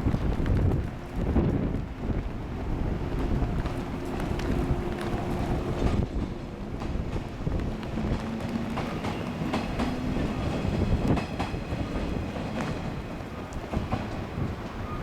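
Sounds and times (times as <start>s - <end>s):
train rumble: 0.0s - 15.0s
wheels clacking over rail joints: 0.0s - 15.0s.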